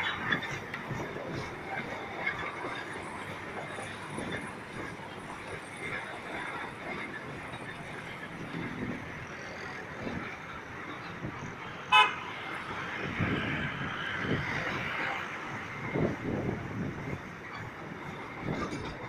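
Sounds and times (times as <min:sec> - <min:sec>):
rumble of moving vehicles: 0:00.0 - 0:19.0.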